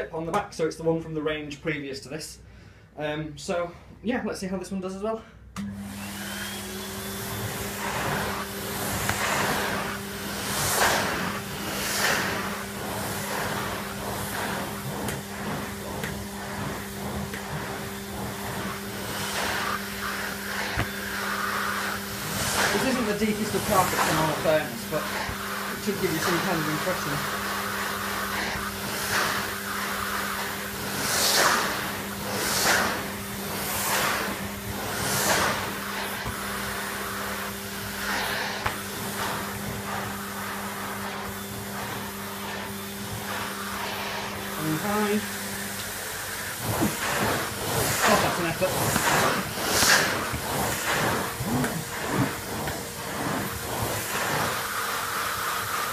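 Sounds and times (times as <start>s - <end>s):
vacuum cleaner running: 4.4s - 55.9s
floor tool pushed over carpet: 5.8s - 55.9s.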